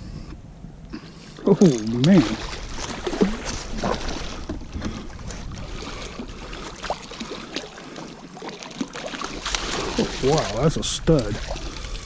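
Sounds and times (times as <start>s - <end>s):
water noise: 0.0s - 12.0s
wind: 0.0s - 12.0s
fish splashing in water: 1.6s - 12.0s.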